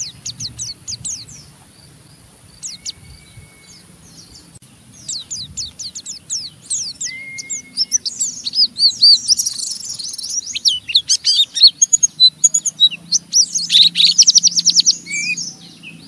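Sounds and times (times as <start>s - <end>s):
bird scratchy chatter: 0.0s - 16.0s.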